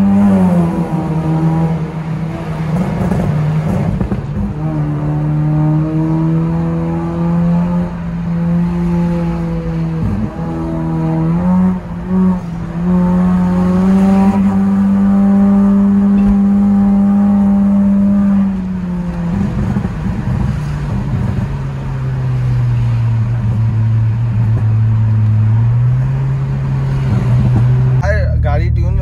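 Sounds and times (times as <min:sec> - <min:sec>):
car engine at high revs: 0:00.0 - 0:28.1.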